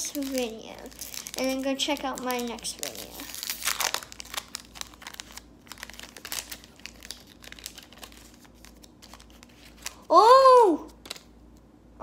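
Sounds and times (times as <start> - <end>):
foil wrapper crinkling and tearing: 0.0 - 10.1, 10.9 - 11.3.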